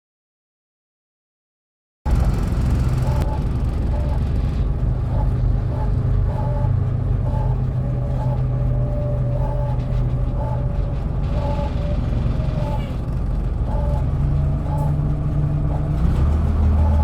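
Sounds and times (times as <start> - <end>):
bus engine droning: 2.1 - 17.0.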